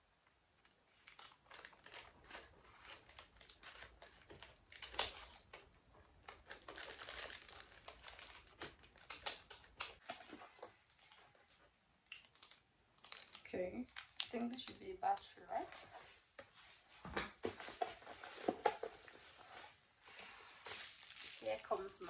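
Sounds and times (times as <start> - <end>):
light plastic clicks and rustles: 0.6 - 19.3.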